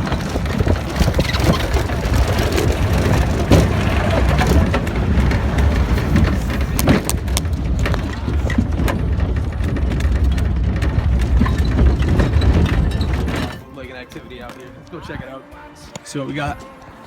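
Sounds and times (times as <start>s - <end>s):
car engine and road rumble: 0.0s - 13.7s
knocks and rattles: 0.0s - 14.8s.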